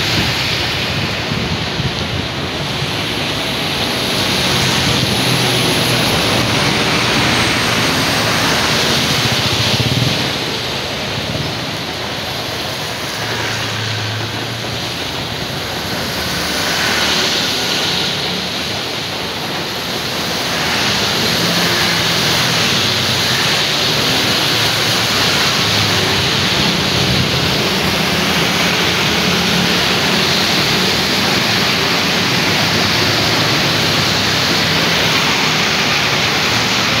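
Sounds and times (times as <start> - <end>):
rain hiss: 0.0 - 37.0
tyres swishing on wet road: 0.0 - 37.0.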